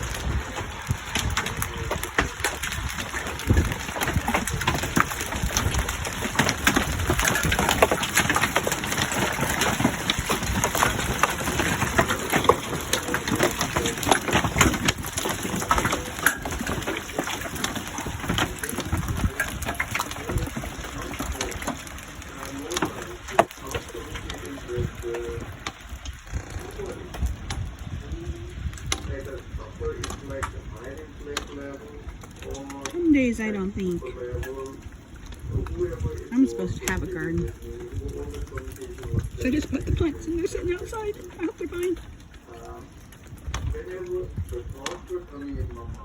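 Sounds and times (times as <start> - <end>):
hailstones striking hard surfaces: 0.0 - 46.0
rain hissing: 0.0 - 46.0.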